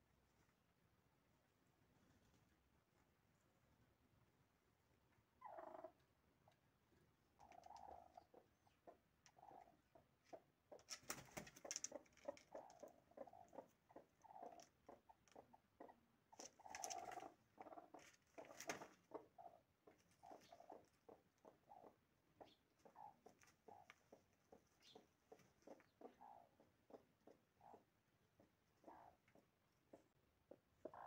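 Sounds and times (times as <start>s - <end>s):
hens clucking softly: 5.0s - 31.0s.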